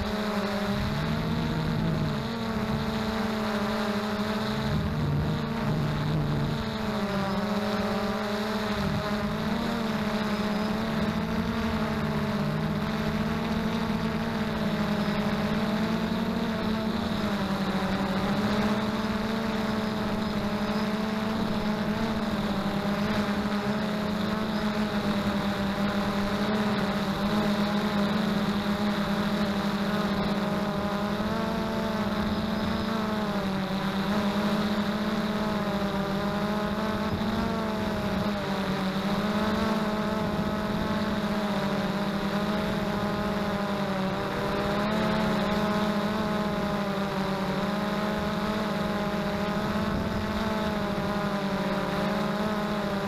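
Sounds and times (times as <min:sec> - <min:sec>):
drone propellers humming: 0:00.0 - 0:53.0.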